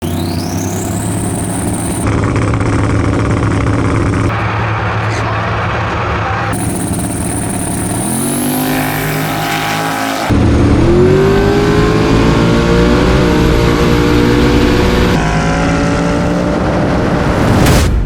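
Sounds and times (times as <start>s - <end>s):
race car accelerating: 0.0s - 2.8s, 3.6s - 17.6s
race car engine steady: 0.0s - 17.4s.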